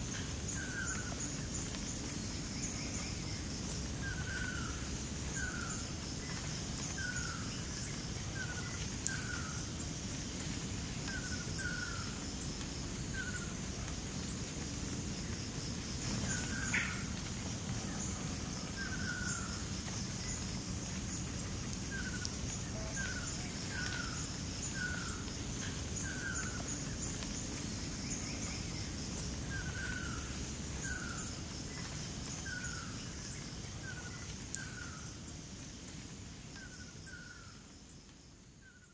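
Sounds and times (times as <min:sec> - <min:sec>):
insects chirring: 0:00.0 - 0:38.9
low background noise: 0:00.0 - 0:38.9.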